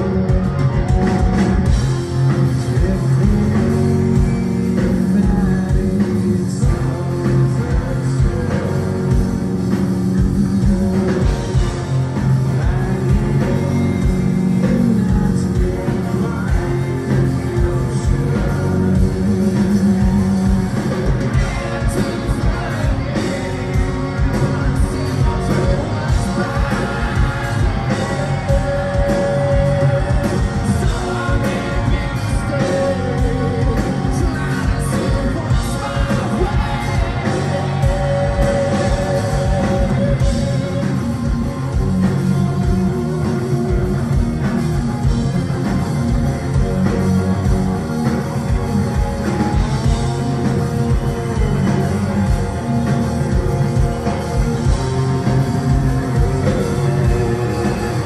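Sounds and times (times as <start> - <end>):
live rock band playing: 0.0 - 58.0
male lead singer: 0.0 - 58.0.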